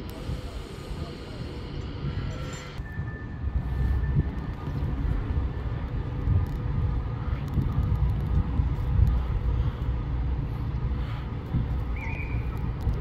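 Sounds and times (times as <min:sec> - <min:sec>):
faint steady whines: 0:00.0 - 0:13.0
train rumbling: 0:00.0 - 0:13.0.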